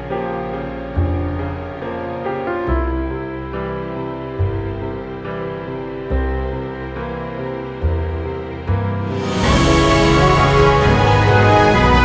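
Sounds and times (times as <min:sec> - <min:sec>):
slow sad piano chords: 0:00.0 - 0:12.0.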